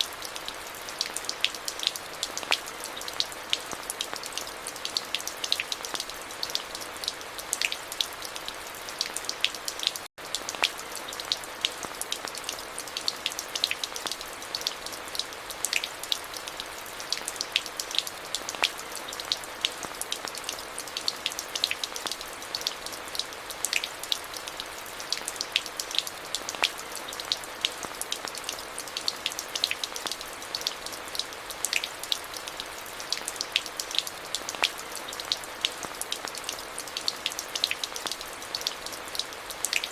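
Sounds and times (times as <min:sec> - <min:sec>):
steady rain with dripping drops: 0:00.0 - 0:39.9.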